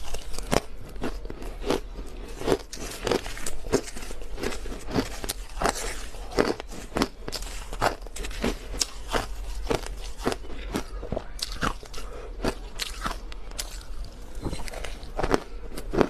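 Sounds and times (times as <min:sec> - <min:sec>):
crushed ice crunching in mouth: 0:00.0 - 0:16.0.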